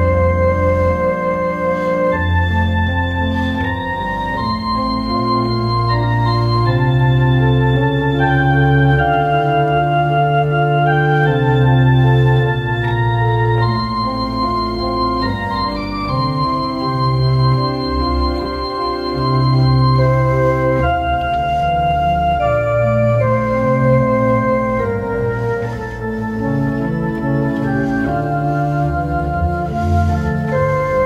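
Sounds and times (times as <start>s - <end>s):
electronic organ chords: 0.0s - 31.0s.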